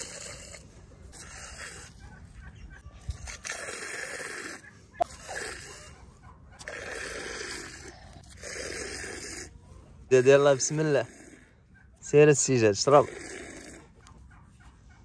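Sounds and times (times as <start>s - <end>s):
chickens clucking: 0.0s - 3.6s, 4.4s - 8.2s, 9.5s - 13.0s, 13.7s - 15.0s.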